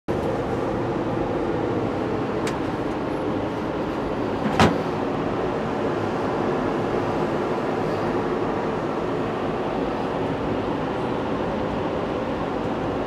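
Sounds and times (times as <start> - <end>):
train car running on track: 0.1 - 13.0.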